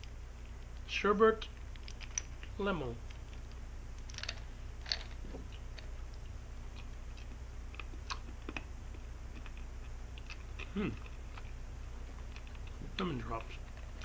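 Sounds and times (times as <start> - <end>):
steady low hum: 0.0 - 14.0
hard candy crunching: 1.4 - 14.0.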